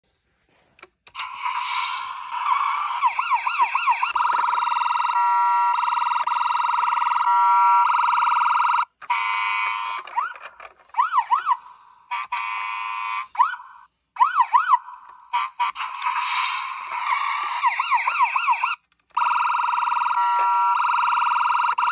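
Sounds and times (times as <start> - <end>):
toy police car electronic siren: 1.2 - 21.9.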